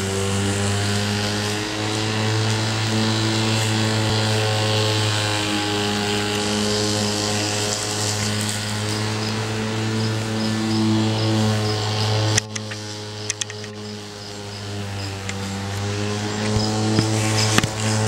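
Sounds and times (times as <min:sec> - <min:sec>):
low mechanical motor drone: 0:00.0 - 0:18.0.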